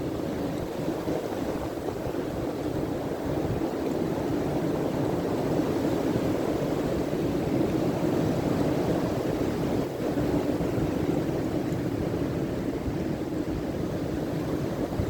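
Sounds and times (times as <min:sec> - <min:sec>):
strong blizzard wind: 0:00.0 - 0:15.0
wind buffeting microphone: 0:00.0 - 0:15.0.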